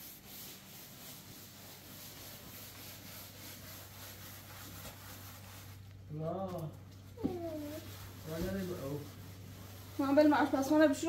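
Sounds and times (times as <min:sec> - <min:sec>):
scrub brush scrubbing: 0:00.0 - 0:06.4, 0:07.2 - 0:11.0.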